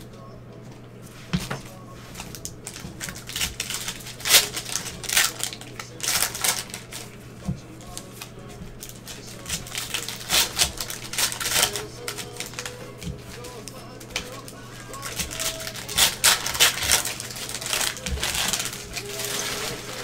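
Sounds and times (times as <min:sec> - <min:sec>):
plastic wrappers tearing and crinkling: 0:01.4 - 0:07.2, 0:07.8 - 0:20.0.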